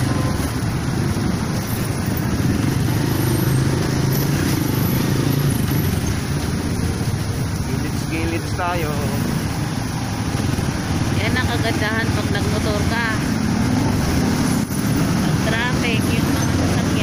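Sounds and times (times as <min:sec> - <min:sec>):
motorcycle engine rumble: 0:00.0 - 0:17.0
road noise: 0:00.0 - 0:17.0.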